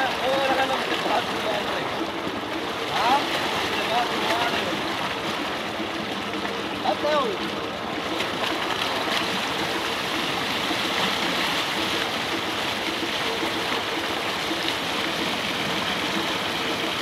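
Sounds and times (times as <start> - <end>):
water gushing into tank: 0.0 - 17.0.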